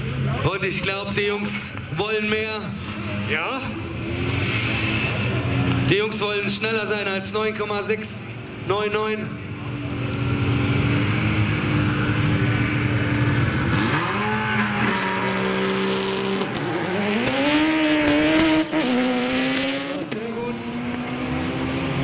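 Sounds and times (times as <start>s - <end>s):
drag racing car engines revving: 0.0s - 22.0s.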